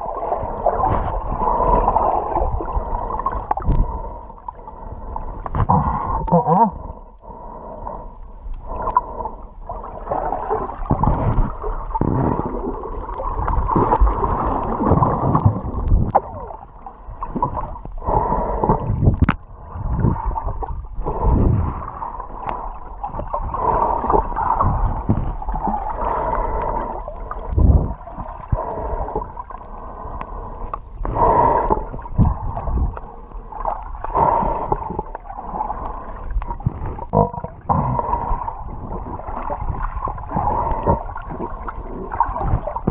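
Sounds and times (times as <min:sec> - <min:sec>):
muffled underwater gurgling: 0:00.0 - 0:42.9.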